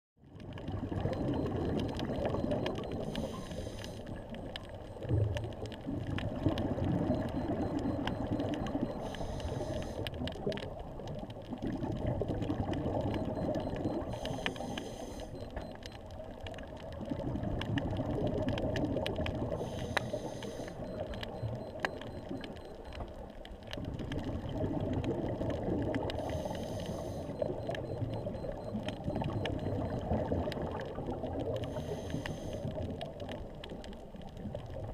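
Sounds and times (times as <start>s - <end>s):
exhaled air bubbling: 0.2s - 34.9s
small clicks crackling: 0.3s - 34.9s.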